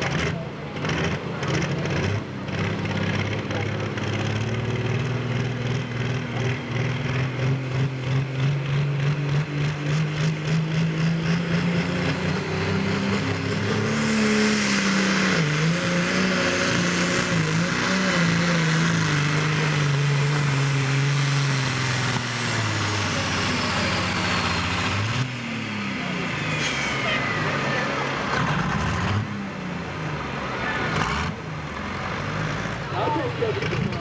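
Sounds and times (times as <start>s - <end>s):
tractor diesel engine labouring: 0.0s - 34.0s.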